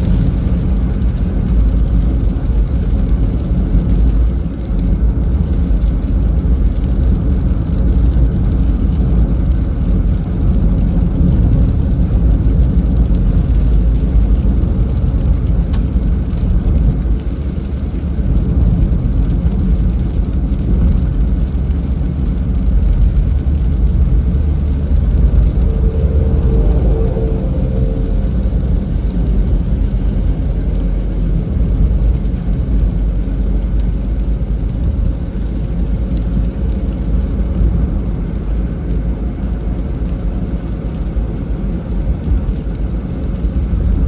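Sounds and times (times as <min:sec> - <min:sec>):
car road and engine rumble: 0:00.0 - 0:44.0.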